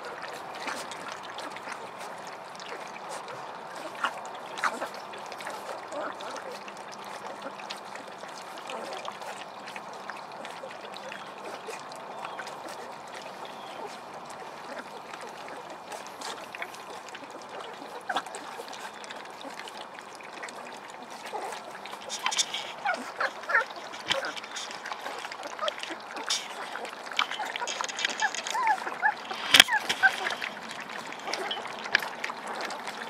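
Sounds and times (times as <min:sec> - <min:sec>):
puppies lapping and slurping: 0:00.0 - 0:33.0.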